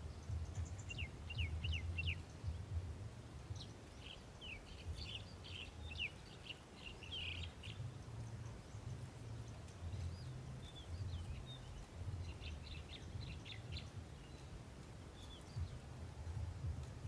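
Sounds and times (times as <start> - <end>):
low uneven rumble: 0.0 - 17.0
small birds chirping: 0.0 - 17.0.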